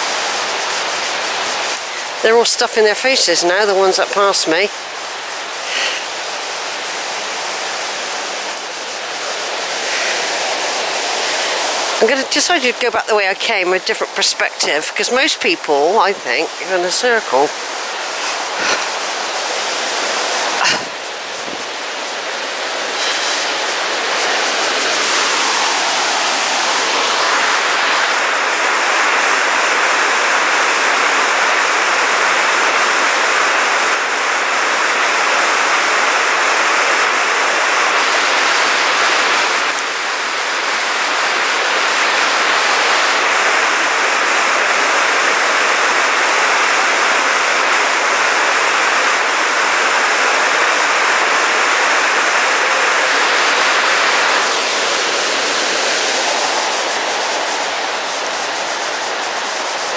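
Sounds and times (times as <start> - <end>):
river rushing over waterfall: 0.0 - 59.9.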